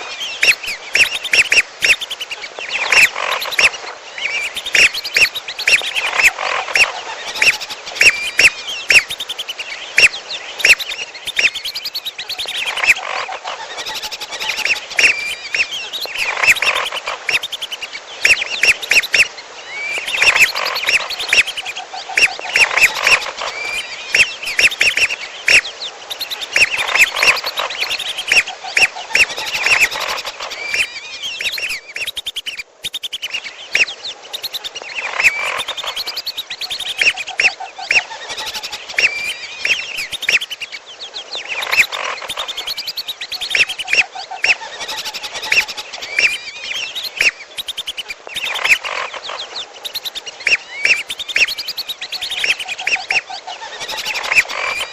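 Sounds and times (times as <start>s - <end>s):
other bird calls: 0.0s - 54.9s
whistling duck calls: 0.3s - 40.7s, 41.5s - 54.9s.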